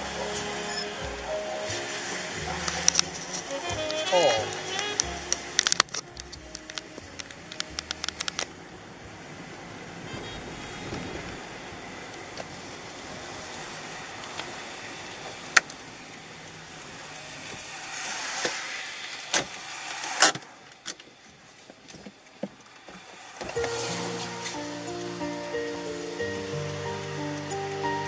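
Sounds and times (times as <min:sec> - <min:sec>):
tyres hissing on wet pavement: 0:00.0 - 0:28.0.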